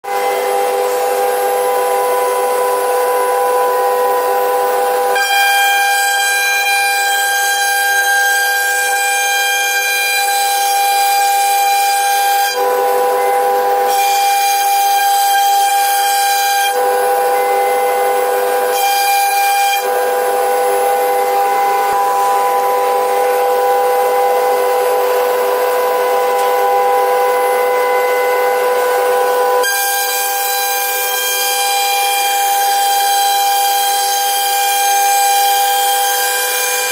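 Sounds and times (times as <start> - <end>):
harsh cutting noise: 0.0 - 36.9
router spindle whine: 0.0 - 36.9.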